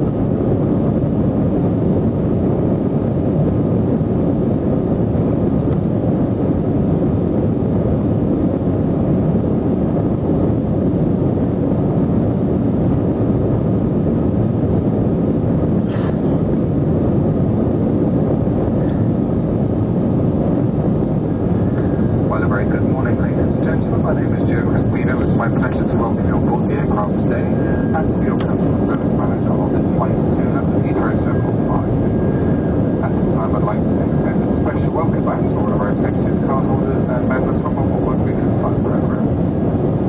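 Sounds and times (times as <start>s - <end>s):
airliner cabin rumble: 0.0s - 40.0s.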